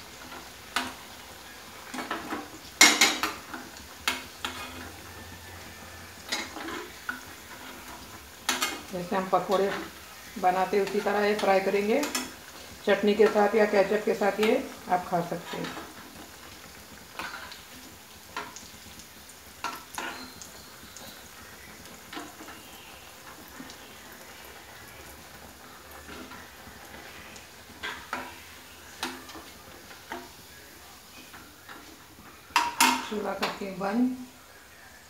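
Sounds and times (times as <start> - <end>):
food sizzling in hot oil: 0.0 - 35.0.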